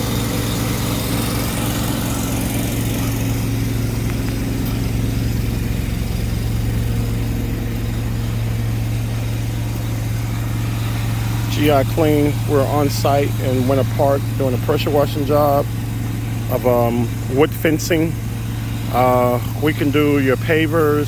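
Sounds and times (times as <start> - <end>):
pressure washer engine running: 0.0 - 21.0.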